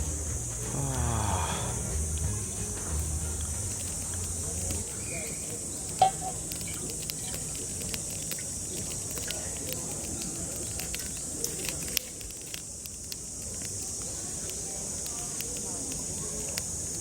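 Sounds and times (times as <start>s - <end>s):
cicadas droning: 0.0s - 17.0s
sharp crackles and clicks: 2.0s - 17.0s.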